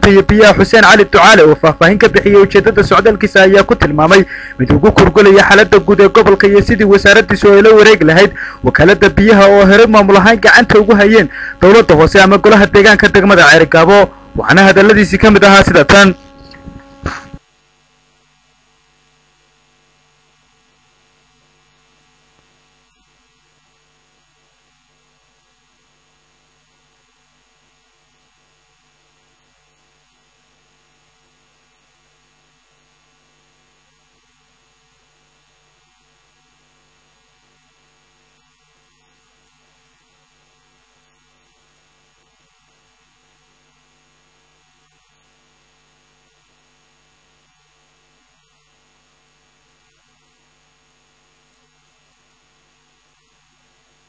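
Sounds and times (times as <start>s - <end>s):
faint electrical hum with hiss: 0.0s - 54.0s.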